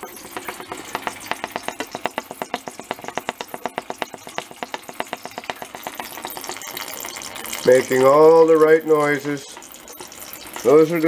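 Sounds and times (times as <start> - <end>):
pot still ticking: 0.0 - 11.0.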